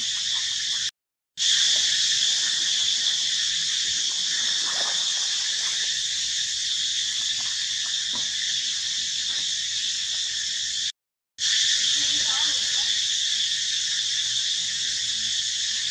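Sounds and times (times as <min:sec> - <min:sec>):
shrill insects droning: 0:00.0 - 0:15.9.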